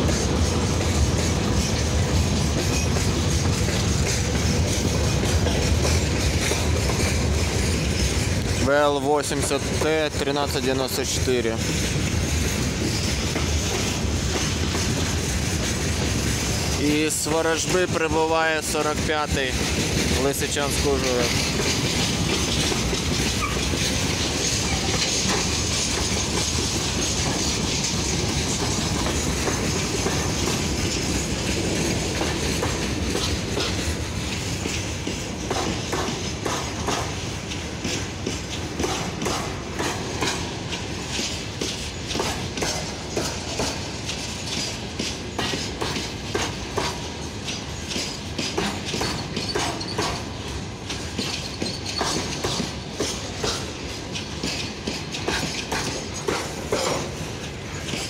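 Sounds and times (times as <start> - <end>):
train wagons rumbling on rails: 0.0 - 58.0
wheels clacking over rail joints: 0.0 - 58.0.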